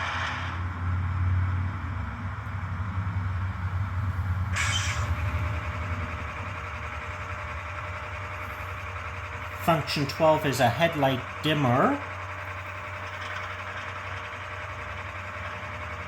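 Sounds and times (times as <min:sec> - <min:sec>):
model diesel engine throb: 0:00.0 - 0:16.0.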